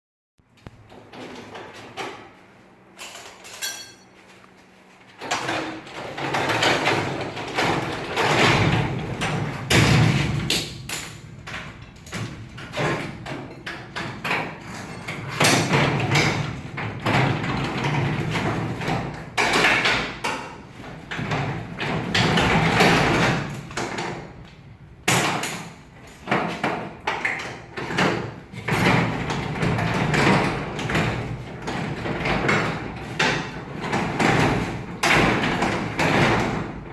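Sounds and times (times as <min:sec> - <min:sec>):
knocks clatter and scraping: 0:00.8 - 0:36.9.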